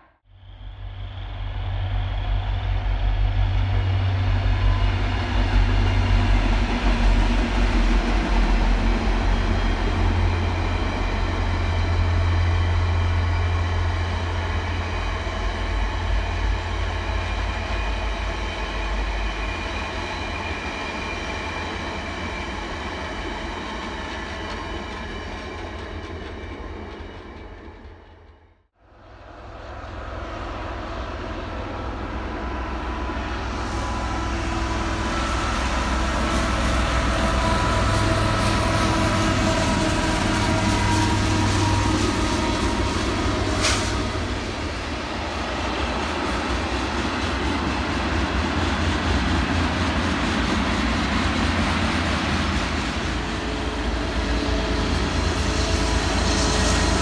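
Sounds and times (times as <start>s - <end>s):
diesel train engine rumble: 0.0s - 57.0s
rolling train cars: 0.0s - 57.0s.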